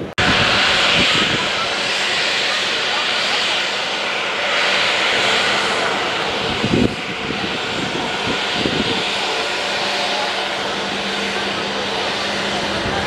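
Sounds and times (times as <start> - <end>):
airliner engines roaring: 0.0 - 13.0.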